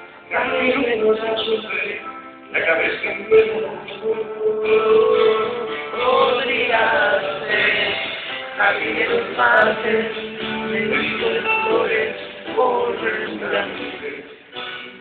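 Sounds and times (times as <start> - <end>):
man singing into a microphone: 0.3 - 14.4.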